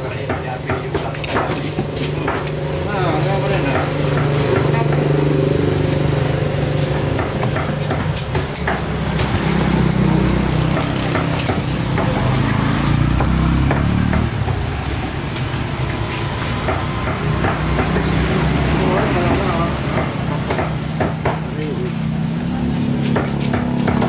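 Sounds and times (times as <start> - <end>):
busy market noise: 0.0 - 24.0.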